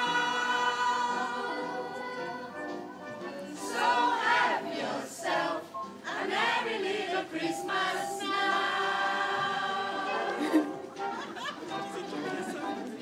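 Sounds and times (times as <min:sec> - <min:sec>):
group singing a carol: 0:00.0 - 0:11.0.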